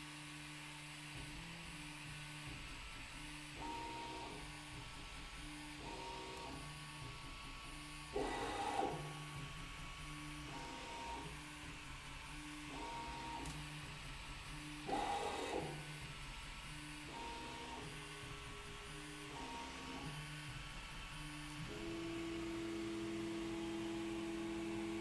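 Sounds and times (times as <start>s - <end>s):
printer stepper motors singing: 2.4s - 9.4s, 10.0s - 25.0s.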